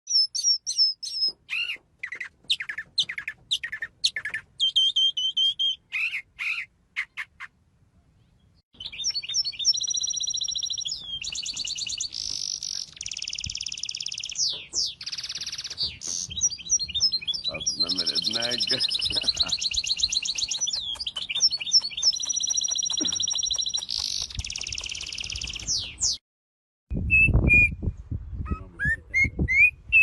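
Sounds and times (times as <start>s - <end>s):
songbirds chirping and trilling: 0.1s - 26.2s.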